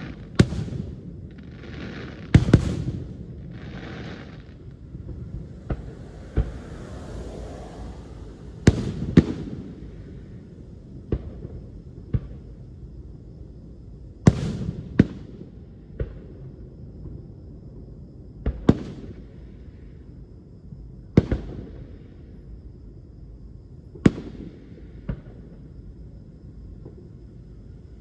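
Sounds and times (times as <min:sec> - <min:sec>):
hissing crackle of fireworks: 0:00.0 - 0:20.2, 0:21.1 - 0:22.6, 0:23.9 - 0:28.0
continuous low rumble: 0:00.0 - 0:28.0.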